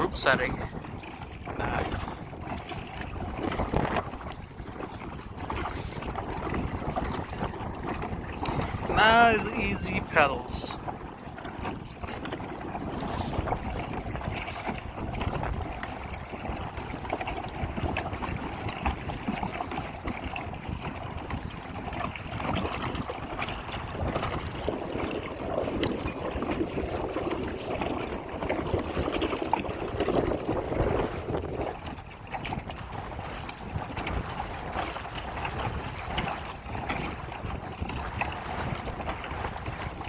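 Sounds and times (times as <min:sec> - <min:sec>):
water splashing against kayak hull: 0:00.0 - 0:40.0
wind buffeting microphone: 0:00.0 - 0:40.0.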